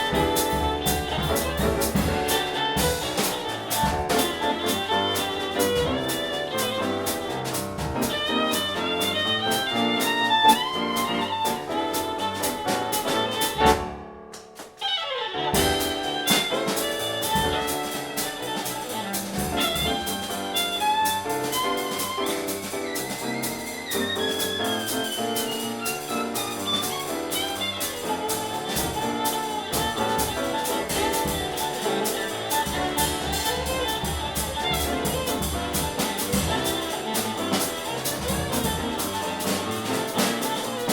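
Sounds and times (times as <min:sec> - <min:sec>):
jazz trio playing: 0:00.0 - 0:40.9.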